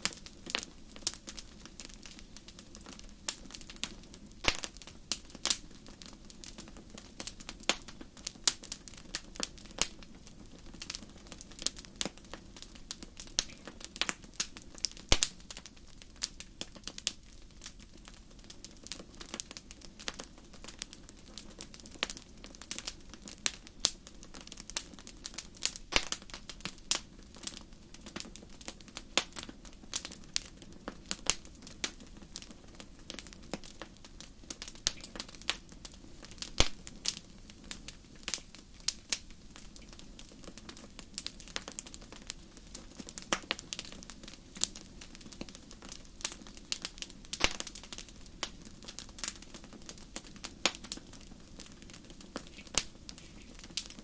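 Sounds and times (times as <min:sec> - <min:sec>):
fire hissing: 0:00.0 - 0:54.0
wood fire crackling: 0:00.0 - 0:54.0.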